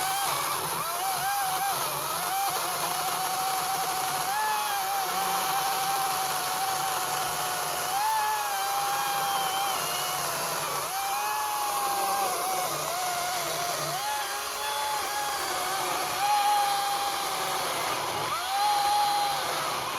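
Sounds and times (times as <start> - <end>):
battery chainsaw cutting wood: 0.0 - 19.9.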